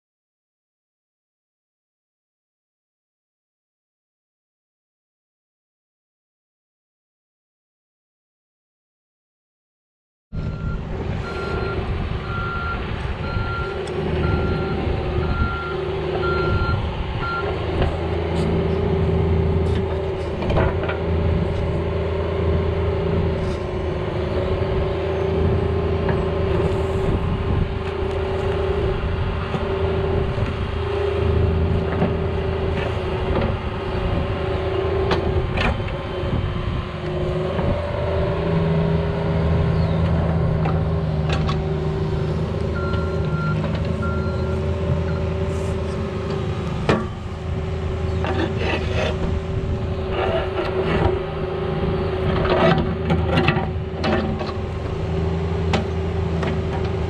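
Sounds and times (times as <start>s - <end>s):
excavator diesel engine working: 10.4s - 57.0s.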